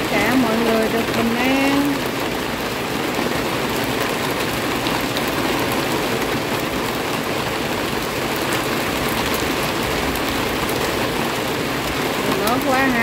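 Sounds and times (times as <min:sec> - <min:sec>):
heavy rain on plants: 0:00.0 - 0:13.0
raindrop taps: 0:00.0 - 0:13.0.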